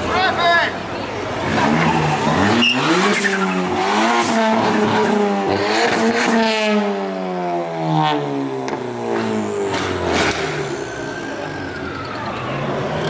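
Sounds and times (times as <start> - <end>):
car engine revving: 1.3 - 13.0.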